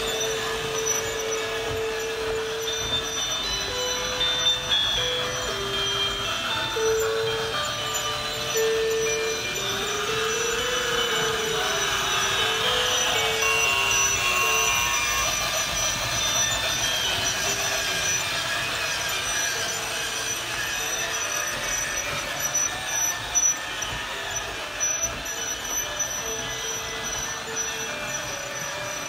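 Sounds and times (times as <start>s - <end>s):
tinkly music box tune: 0.0s - 29.0s
toy train whirring rattle: 0.0s - 29.0s.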